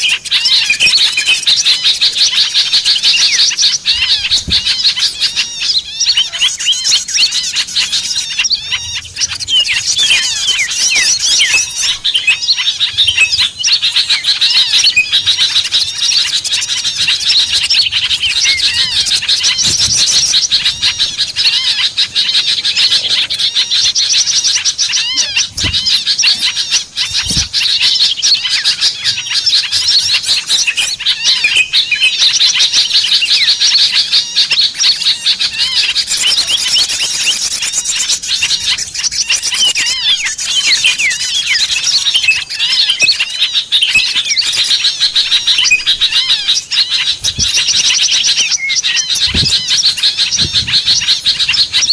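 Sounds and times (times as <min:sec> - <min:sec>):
songbirds chirping and twittering: 0:00.0 - 0:51.9.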